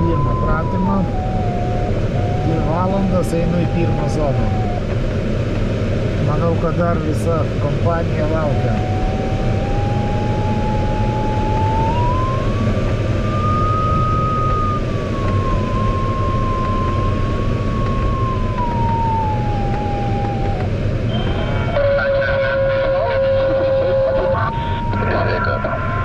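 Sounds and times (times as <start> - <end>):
airflow rushing in cockpit: 0.0 - 26.0
variometer electronic tone: 0.0 - 26.0.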